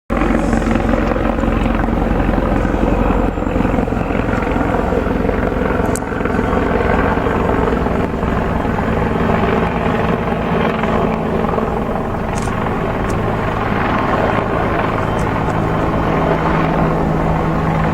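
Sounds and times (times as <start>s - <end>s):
locomotive hum: 0.1s - 17.9s.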